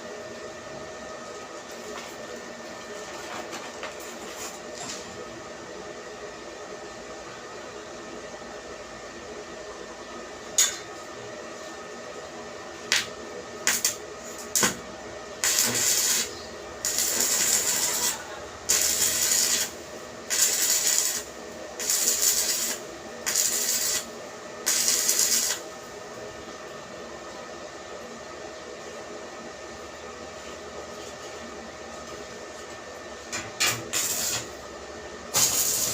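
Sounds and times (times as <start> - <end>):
steady machine hum: 0.0 - 35.9.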